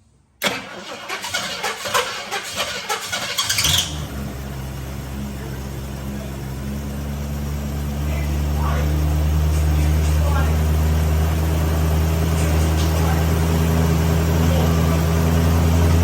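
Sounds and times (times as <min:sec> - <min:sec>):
car engine cranking: 0:00.4 - 0:16.0
car engine idling: 0:00.4 - 0:16.0.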